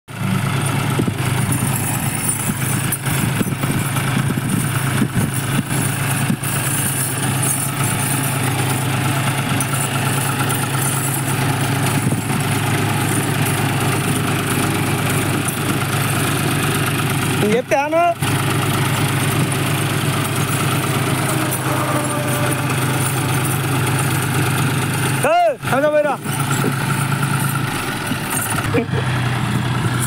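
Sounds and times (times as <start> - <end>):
tractor diesel engine under load: 0.1 - 30.0.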